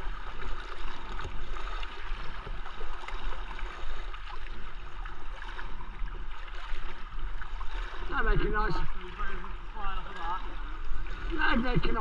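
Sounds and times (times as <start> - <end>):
paddle blades dipping into water: 0.0 - 12.0
water splashing against kayak hull: 0.0 - 12.0.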